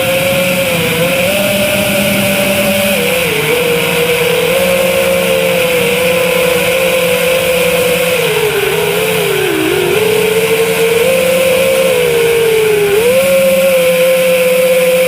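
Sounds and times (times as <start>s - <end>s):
drone propellers buzzing whine: 0.0s - 15.0s.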